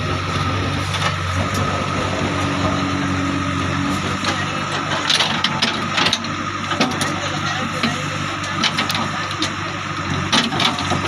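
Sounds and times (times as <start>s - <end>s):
diesel engine running under load: 0.0s - 11.0s
hydraulic whine: 0.0s - 11.0s.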